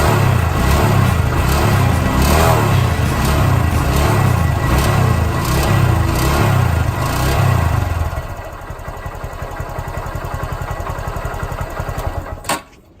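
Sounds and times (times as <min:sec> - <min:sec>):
motorcycle engine revving and idling: 0:00.0 - 0:12.4.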